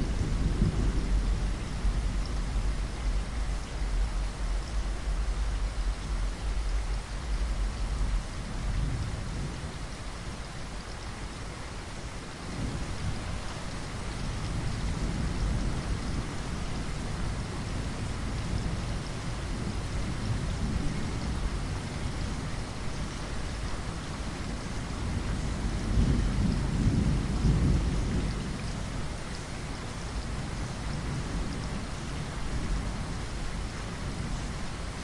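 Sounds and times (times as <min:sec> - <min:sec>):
thunder rumble: 0:00.0 - 0:09.7, 0:12.4 - 0:35.0.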